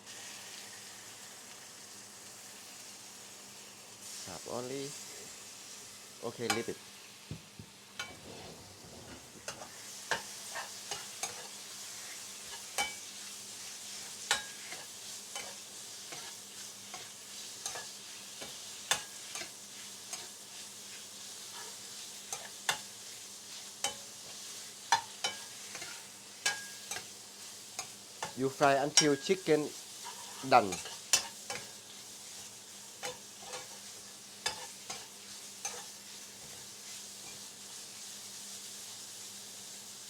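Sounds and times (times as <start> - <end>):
chicken sizzling in a pan: 0.0 - 40.0.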